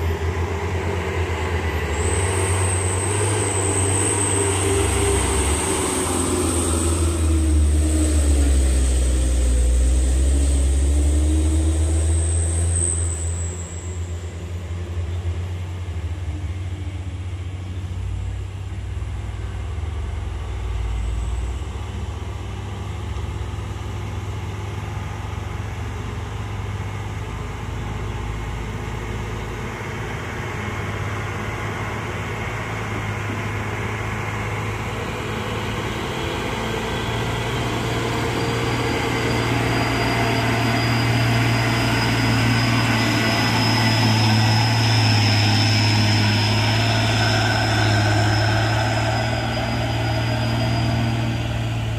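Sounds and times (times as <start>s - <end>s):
low truck engine rumble: 0.0s - 51.9s
truck engine climbing: 0.0s - 51.9s.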